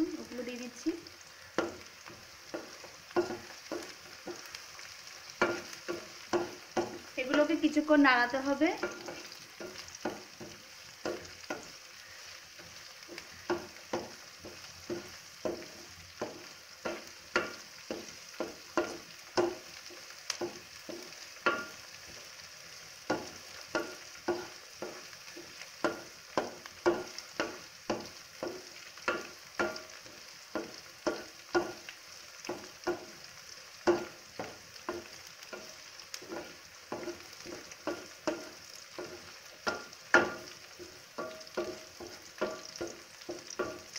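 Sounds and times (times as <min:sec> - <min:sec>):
frying sizzle: 0:00.0 - 0:43.9.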